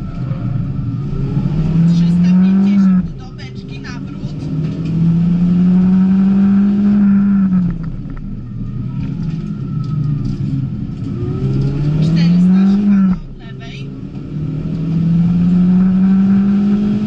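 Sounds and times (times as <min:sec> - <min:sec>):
car engine revving from inside: 0:00.0 - 0:08.1, 0:10.3 - 0:17.0.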